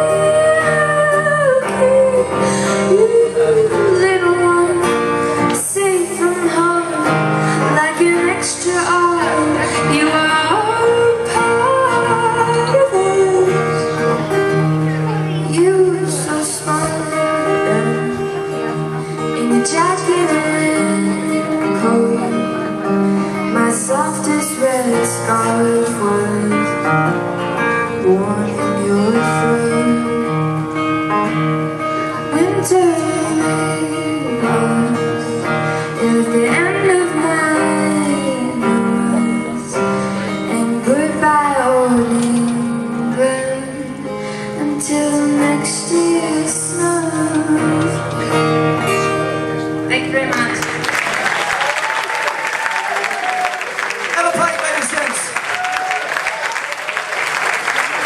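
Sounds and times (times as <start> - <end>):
woman singing: 0.0 - 31.4, 32.0 - 49.1
guitar accompaniment: 0.0 - 58.0.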